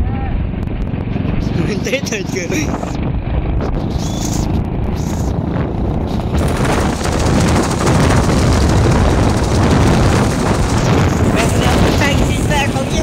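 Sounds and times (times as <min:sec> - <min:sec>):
motorbike engine rumble: 0:00.0 - 0:13.0
road noise: 0:00.0 - 0:13.0
wind buffeting microphone: 0:00.0 - 0:13.0.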